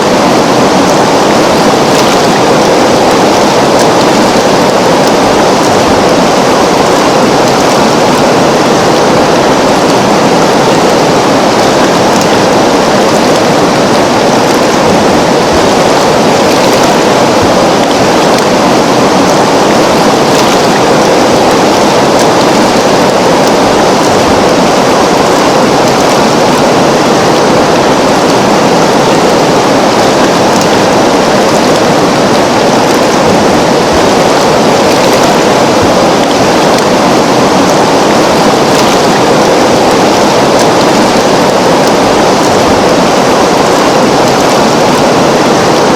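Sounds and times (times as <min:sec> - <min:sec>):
river water rushing: 0:00.0 - 0:45.9.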